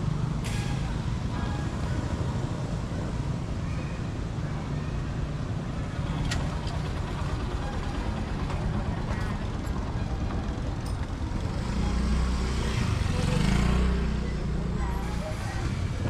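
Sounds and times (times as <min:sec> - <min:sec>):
street noise rumble: 0:00.0 - 0:16.0.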